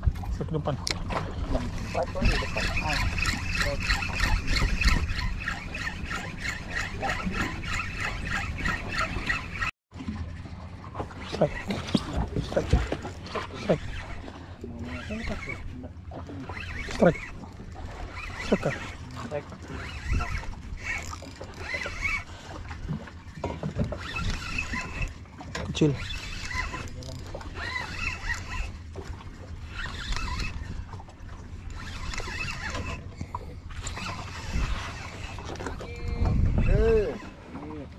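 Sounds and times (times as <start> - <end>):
boat engine rumble: 0.0 - 37.9
fishing reel ticking whirr: 1.6 - 9.7, 11.2 - 37.8.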